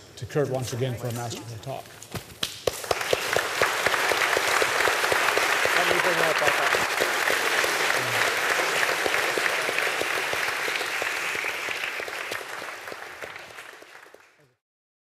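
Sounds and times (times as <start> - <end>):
audience applauding: 2.4 - 14.6.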